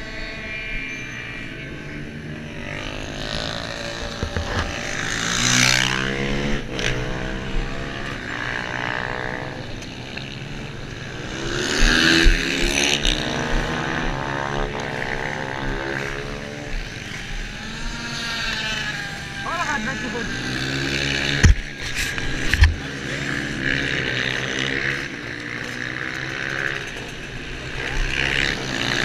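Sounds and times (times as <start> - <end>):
scooter engine revving: 0.0 - 29.0.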